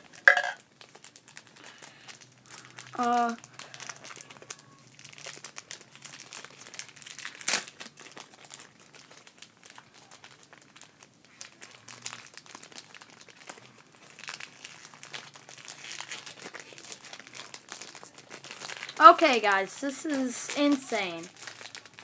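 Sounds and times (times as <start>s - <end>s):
plastic packaging crinkling: 0.0s - 22.0s.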